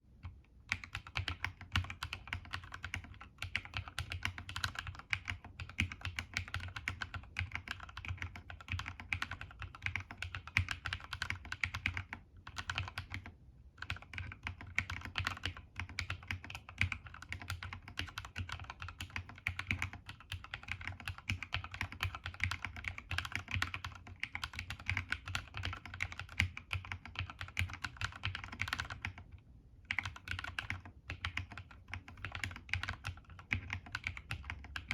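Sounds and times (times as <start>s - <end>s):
keyboard typing clacks: 0.7s - 29.2s, 29.9s - 34.9s.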